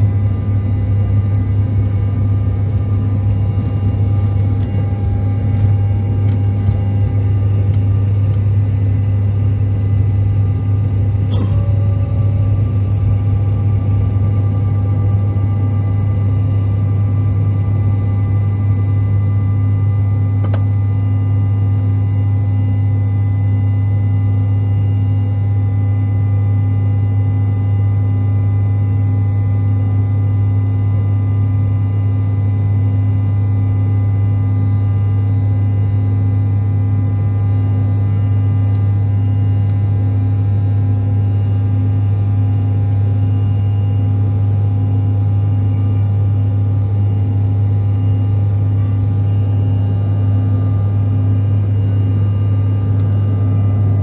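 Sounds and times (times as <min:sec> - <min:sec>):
jet cabin drone: 0:00.0 - 0:54.0.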